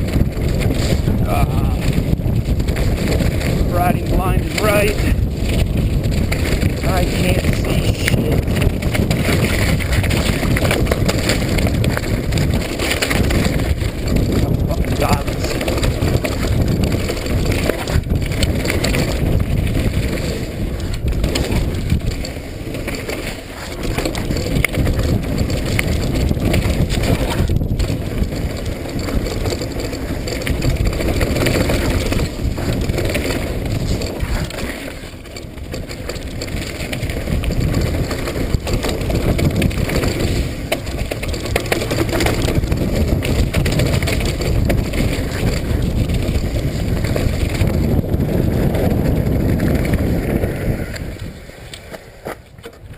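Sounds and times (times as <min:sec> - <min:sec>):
bike rattling over rough ground: 0:00.0 - 0:52.9
bike tyres on wet dirt: 0:00.0 - 0:52.9.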